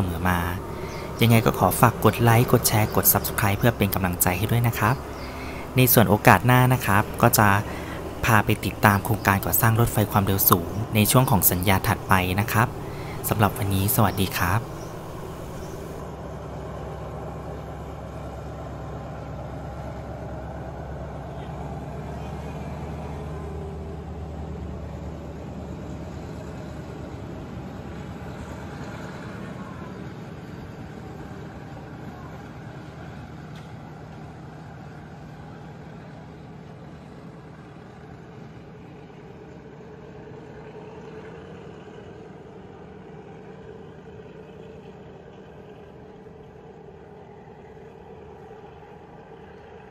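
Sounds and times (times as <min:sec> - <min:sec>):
diesel train engine hum: 0:00.0 - 0:49.9.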